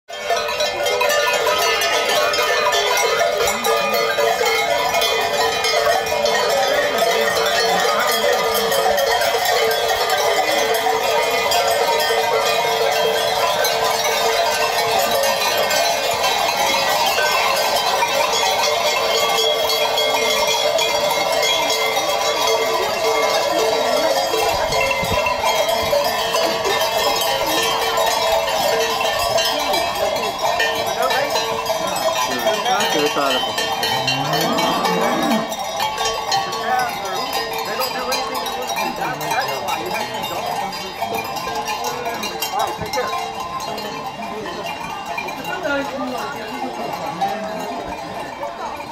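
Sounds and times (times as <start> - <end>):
cowbells clanging: 0.1 - 48.9.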